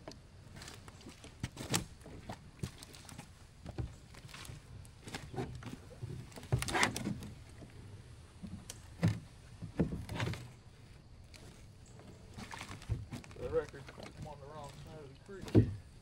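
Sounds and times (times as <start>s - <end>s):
kayak hull scraping creek bottom: 0.0s - 16.0s.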